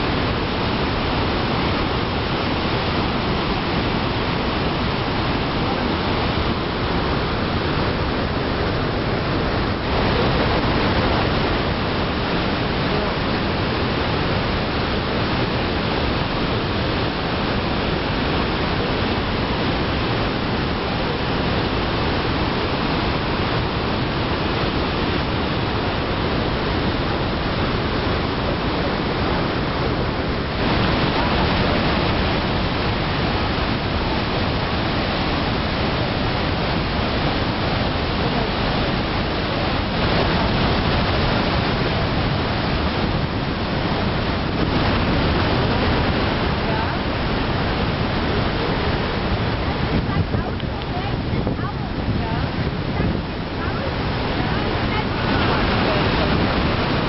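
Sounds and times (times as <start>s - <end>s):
whitewater pouring over rock: 0.0s - 57.0s.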